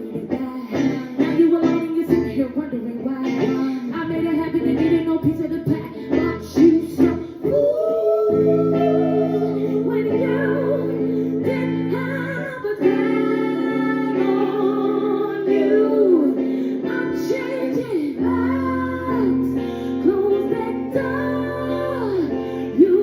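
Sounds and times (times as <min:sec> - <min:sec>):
choppy guitar chords: 0:00.0 - 0:23.0
person singing with vibrato: 0:00.0 - 0:23.0.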